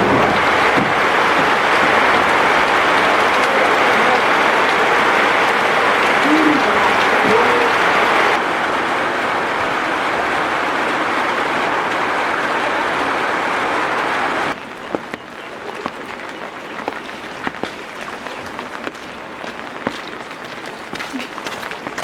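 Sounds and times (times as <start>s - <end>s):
heavy rain falling: 0.0s - 22.0s
sharp water drips: 0.0s - 22.0s.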